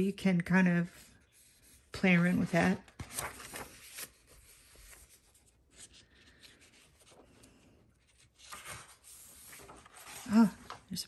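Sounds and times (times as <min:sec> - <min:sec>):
paper pages rustling: 0:00.9 - 0:11.0.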